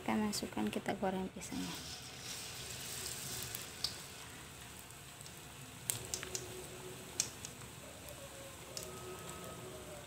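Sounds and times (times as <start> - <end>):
batter frying in hot oil: 0.0 - 10.0.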